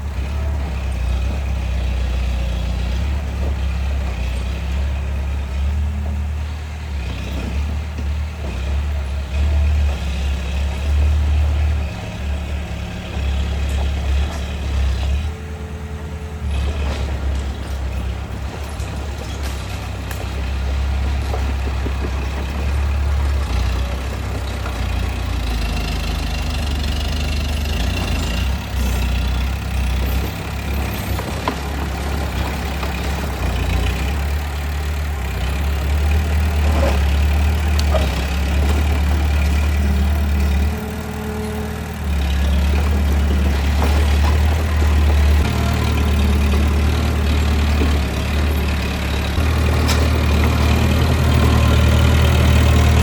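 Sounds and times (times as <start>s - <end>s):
bulldozer diesel engine rumbling: 0.0s - 53.0s.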